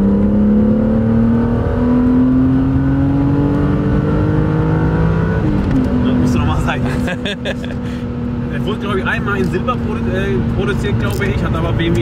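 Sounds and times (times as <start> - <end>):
car engine pulling: 0.0 - 12.0.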